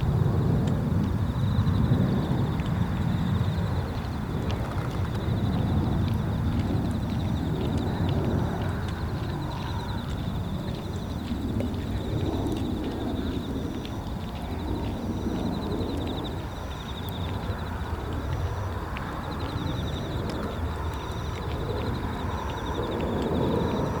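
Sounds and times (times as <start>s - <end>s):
distant jet engine rumble: 0.0s - 24.0s
insects trilling: 1.0s - 24.0s.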